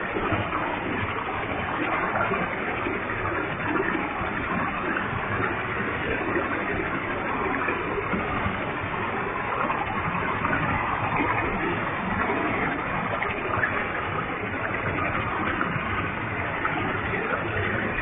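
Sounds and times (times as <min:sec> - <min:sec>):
waterfall splashing: 0:00.0 - 0:18.0.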